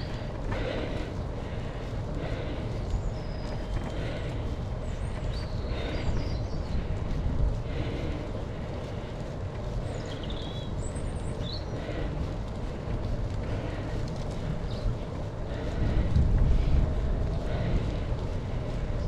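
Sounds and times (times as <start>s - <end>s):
bicycle wind and tyre rumble: 0.0s - 19.0s.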